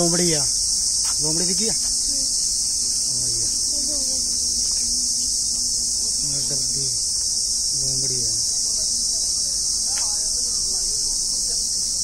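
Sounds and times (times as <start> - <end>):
faint voices talking: 0.0 - 12.0
high-pitched insect chorus: 0.0 - 12.0.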